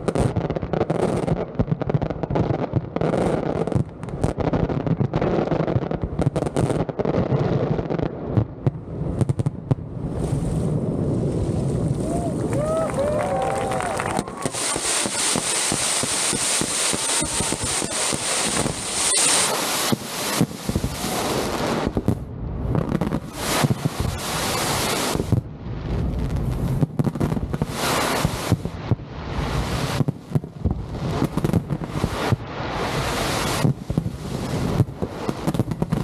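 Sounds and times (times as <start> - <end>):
fireworks bangs and crackling: 0.0 - 36.0
wind rumbling on microphone: 0.0 - 36.0.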